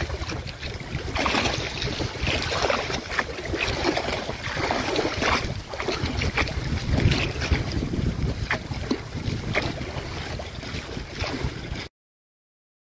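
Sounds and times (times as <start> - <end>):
lake water lapping and splashing: 0.0 - 11.9
wind rumble on microphone: 0.0 - 11.9.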